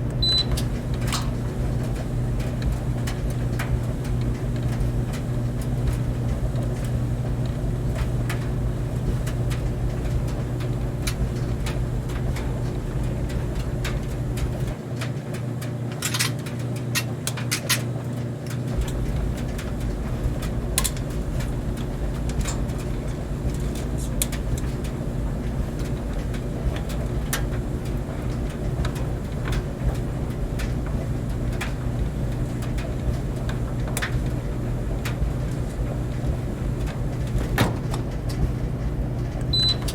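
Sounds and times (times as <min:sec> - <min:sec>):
clothes dryer humming: 0:00.0 - 0:39.9.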